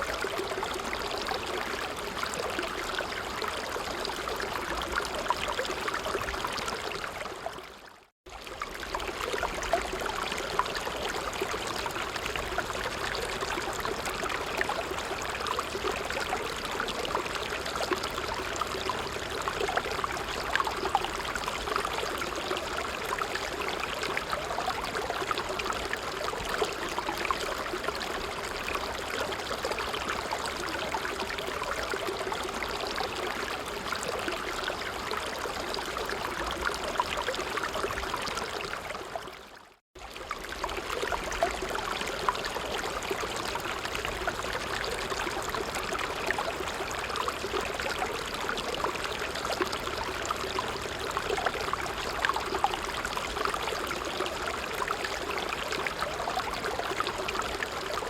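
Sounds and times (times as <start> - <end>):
creek babbling over stones: 0.0 - 58.0.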